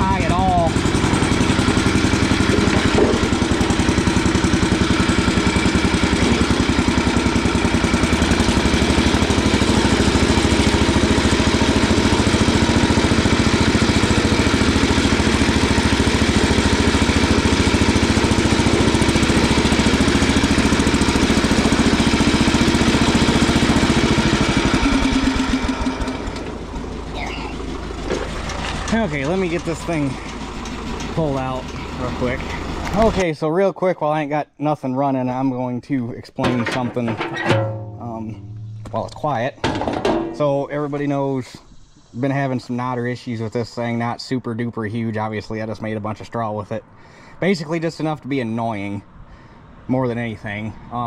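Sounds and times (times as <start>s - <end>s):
tractor diesel engine running: 0.0s - 33.3s, 36.5s - 51.0s.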